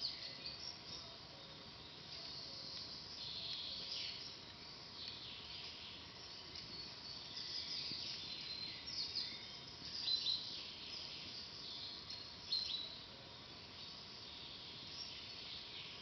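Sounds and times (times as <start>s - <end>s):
songbirds chirping: 0.0s - 16.0s
steady background hiss: 0.0s - 16.0s.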